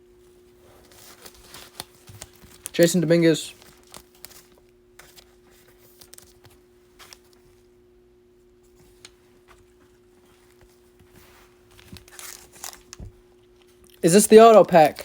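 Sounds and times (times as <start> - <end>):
faint hum: 0.0 - 15.0
cards being shuffled: 0.8 - 7.4, 8.9 - 15.0.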